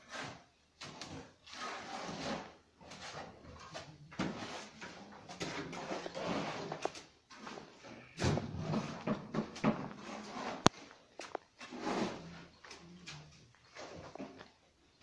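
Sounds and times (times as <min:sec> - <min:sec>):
shovels scraping mortar: 0:00.0 - 0:14.5.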